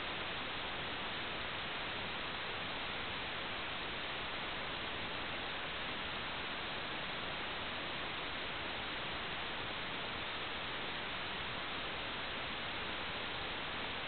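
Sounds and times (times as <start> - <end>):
steady static hiss: 0.0 - 14.0.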